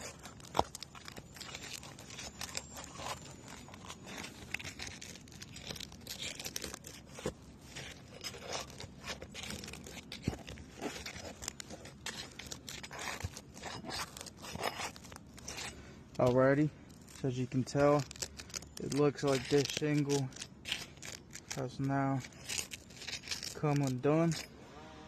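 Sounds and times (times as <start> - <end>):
shingle crackling and tearing: 0.0 - 24.5.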